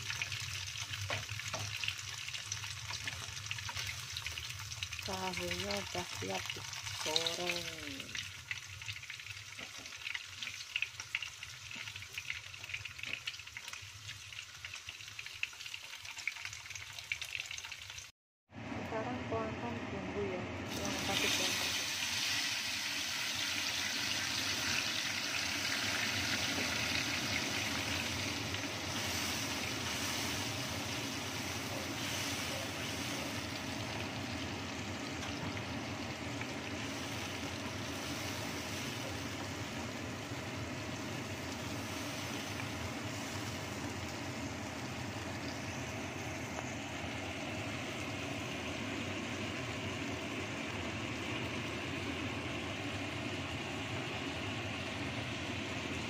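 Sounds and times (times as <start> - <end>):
spice paste sizzling in oil: 0.0 - 18.1, 20.7 - 56.0.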